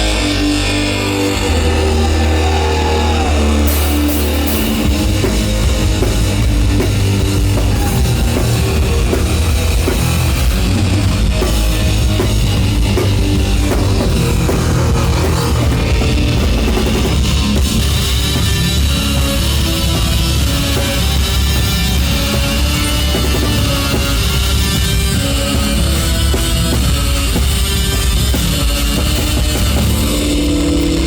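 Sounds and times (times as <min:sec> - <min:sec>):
distorted electric guitar: 0:00.0 - 0:31.0
drum kit: 0:00.0 - 0:31.0.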